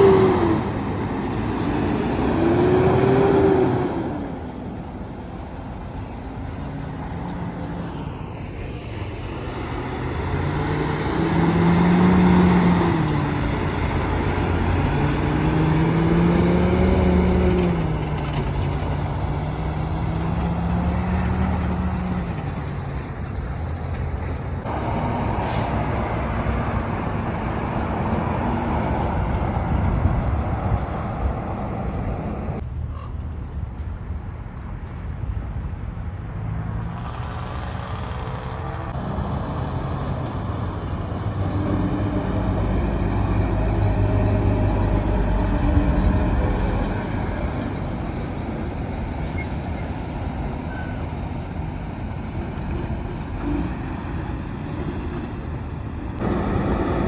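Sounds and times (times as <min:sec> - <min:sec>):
road noise: 0:00.0 - 0:57.0
truck diesel engines passing: 0:00.0 - 0:57.0.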